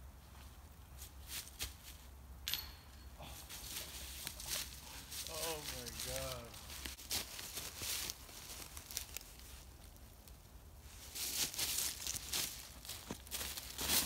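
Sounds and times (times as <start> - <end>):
footsteps in dry leaves: 0.4 - 2.1, 3.5 - 14.0.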